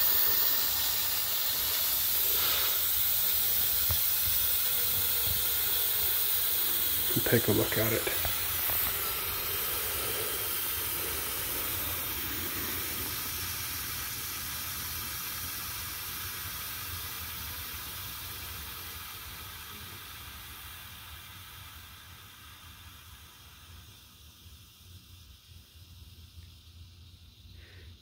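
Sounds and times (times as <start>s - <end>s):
pressure cooker venting steam: 0.0s - 28.0s.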